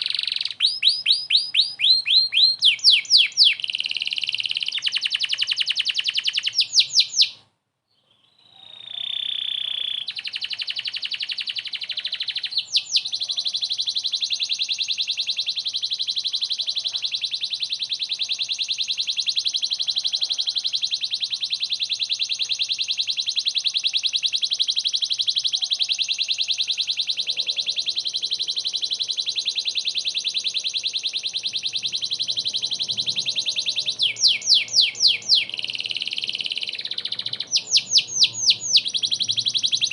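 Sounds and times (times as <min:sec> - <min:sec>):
canary trilling: 0:00.0 - 0:07.4, 0:08.1 - 0:39.9.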